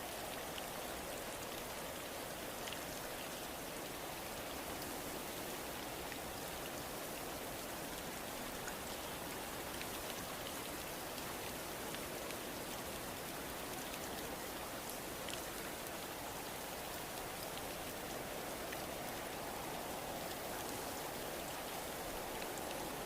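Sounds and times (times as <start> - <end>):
rain falling on a surface: 0.0 - 23.0.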